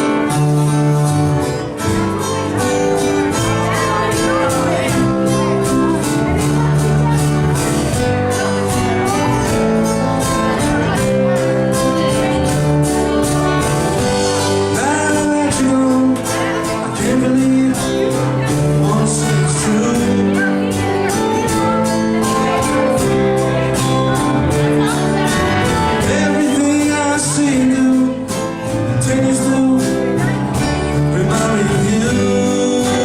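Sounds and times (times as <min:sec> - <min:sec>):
live band playing: 0:00.0 - 0:33.0
person singing: 0:00.0 - 0:33.0.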